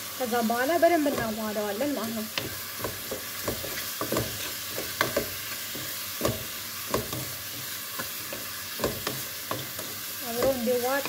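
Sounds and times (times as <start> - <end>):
meat and onions sizzling in a pot: 0.0 - 11.0
utensil knocking and scraping a pot: 1.0 - 11.0.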